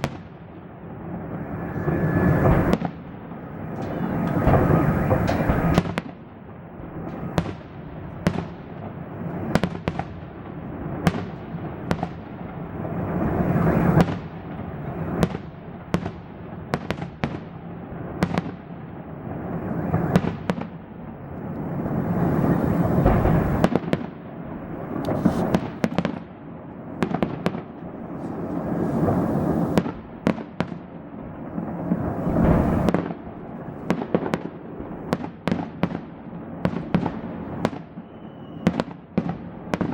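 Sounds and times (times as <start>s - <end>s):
fireworks bangs: 0.0s - 39.9s
rumble of explosions: 0.0s - 39.9s.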